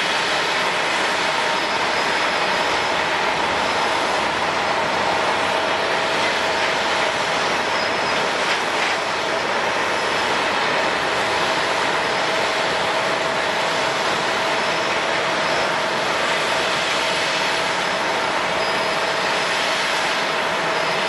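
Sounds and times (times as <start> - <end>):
jet airliner engines running: 0.0 - 21.0.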